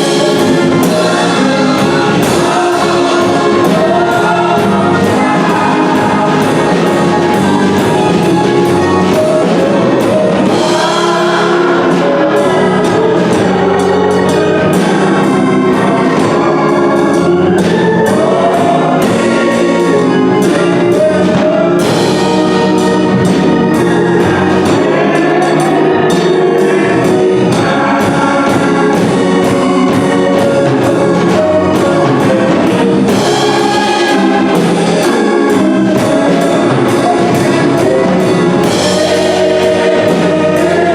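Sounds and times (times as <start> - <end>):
gospel music with singing: 0.0 - 40.9.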